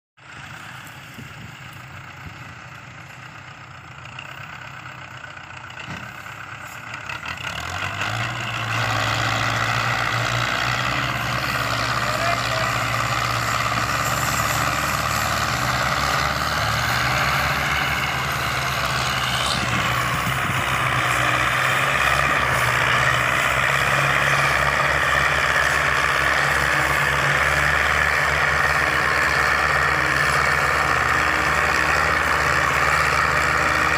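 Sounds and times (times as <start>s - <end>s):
tractor diesel engines under load: 0.2s - 33.9s.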